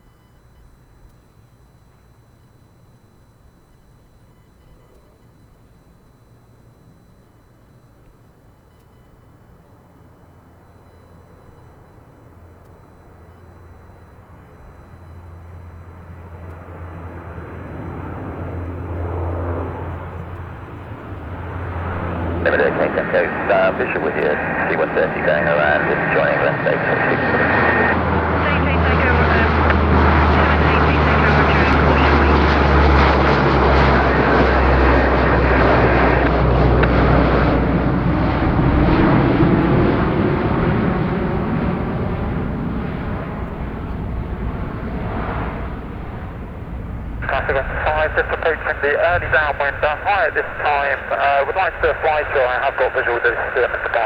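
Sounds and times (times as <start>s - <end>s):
turboprop engines droning: 0.0s - 54.0s.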